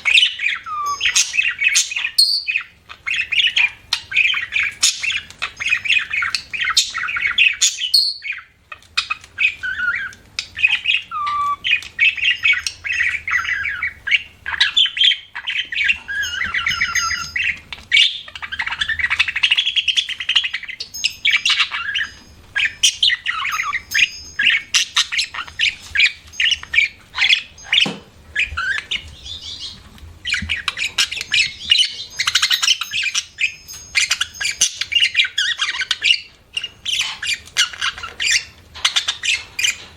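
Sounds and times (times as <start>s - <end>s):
budgerigar chirping and warbling: 0.0s - 39.9s.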